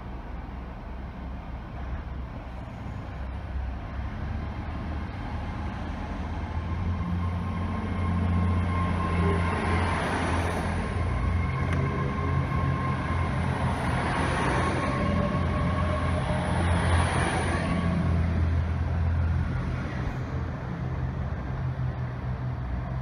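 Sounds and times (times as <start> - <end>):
diesel train engine hum: 0.0 - 23.0
wheel and rail noise: 0.0 - 23.0.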